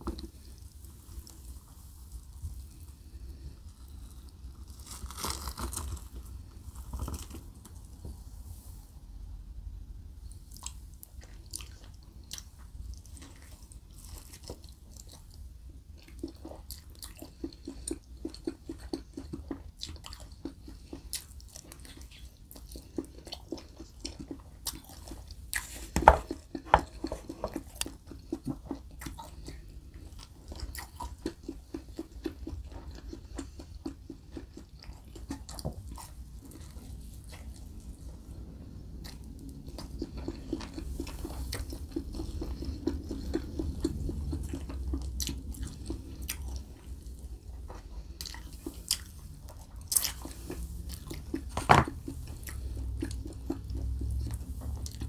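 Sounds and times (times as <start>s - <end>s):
person chewing: 0.0s - 8.2s, 10.2s - 55.0s.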